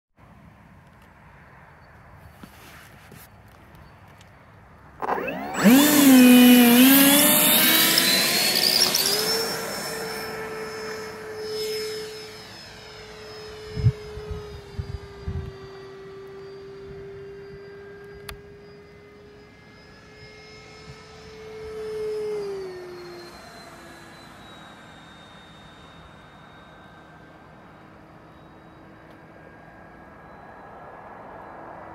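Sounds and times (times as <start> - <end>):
model jet ducted fan whining: 2.4 - 31.9.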